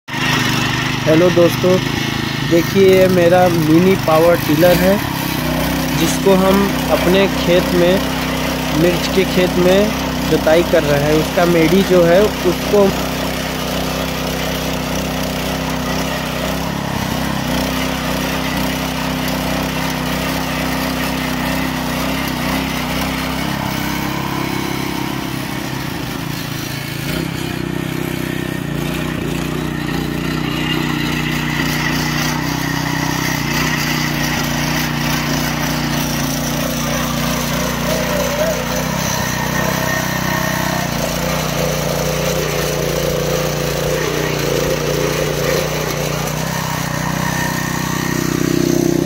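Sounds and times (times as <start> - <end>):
tiller engine running under load: 0.1 - 49.0.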